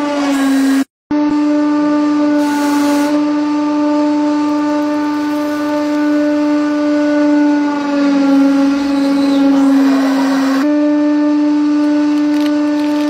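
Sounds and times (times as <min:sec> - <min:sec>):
hydraulic press droning: 0:00.0 - 0:13.0.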